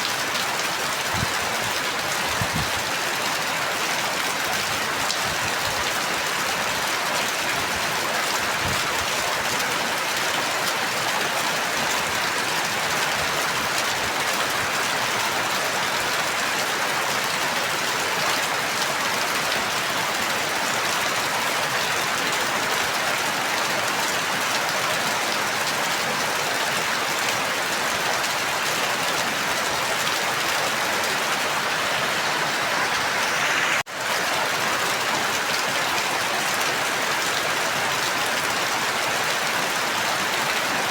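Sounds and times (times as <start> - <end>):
dense rain falling: 0.0 - 40.9.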